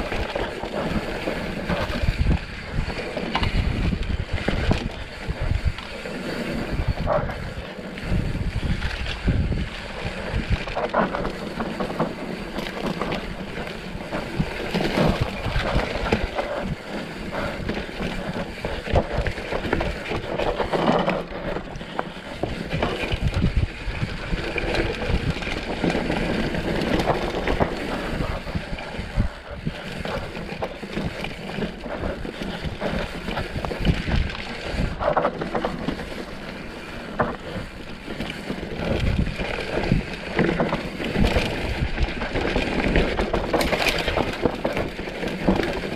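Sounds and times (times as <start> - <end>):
bike rattling and knocking: 0.0 - 45.9
wind buffeting microphone: 0.0 - 45.9.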